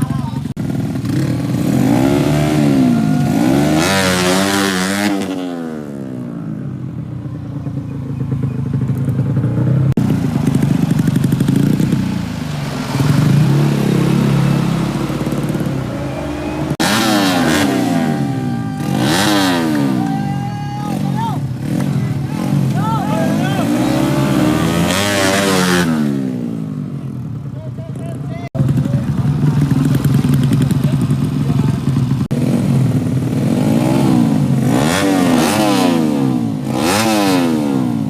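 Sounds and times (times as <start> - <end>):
racing motorcycles revving past: 0.0 - 6.8, 8.2 - 20.2, 20.9 - 27.2, 32.2 - 38.0.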